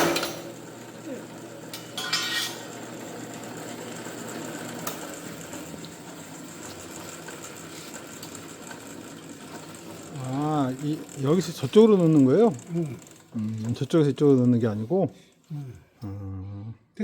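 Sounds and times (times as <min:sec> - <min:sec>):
cutting machine humming: 0:00.0 - 0:15.0.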